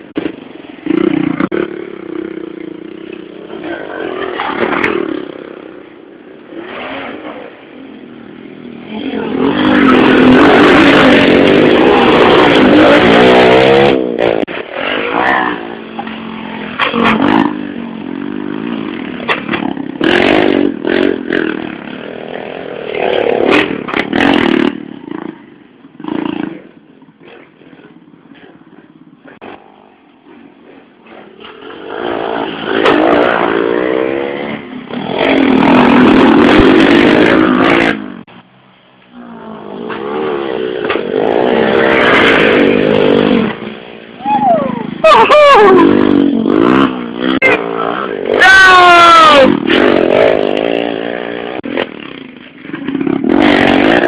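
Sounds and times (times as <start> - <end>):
motorcycles racing past revving: 0.0 - 54.0.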